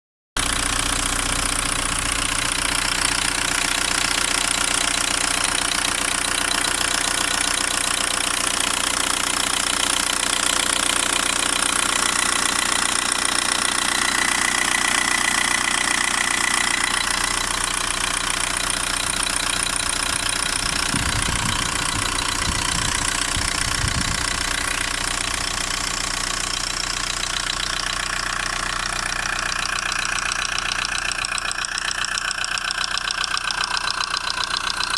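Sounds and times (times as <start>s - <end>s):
diesel engine idling with ticking: 0.4s - 34.9s.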